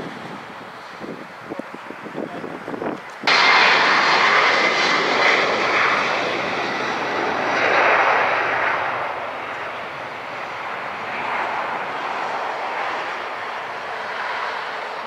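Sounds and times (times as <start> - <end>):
jet engines at taxi power: 0.0 - 15.0.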